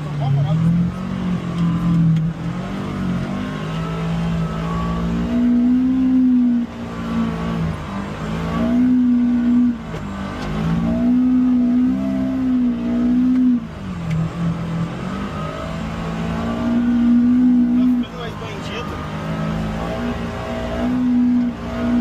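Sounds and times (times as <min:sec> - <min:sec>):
utility vehicle engine revving: 0:00.0 - 0:22.0.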